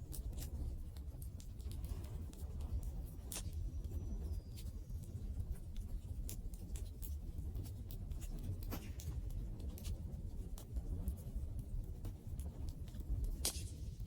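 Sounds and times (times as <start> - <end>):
low rumble of burning: 0.0 - 14.0.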